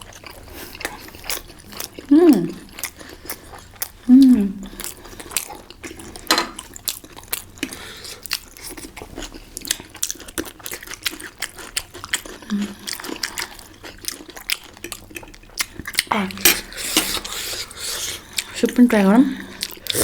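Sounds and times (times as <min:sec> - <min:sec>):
chewing and biting: 0:00.0 - 0:18.6, 0:19.4 - 0:20.0.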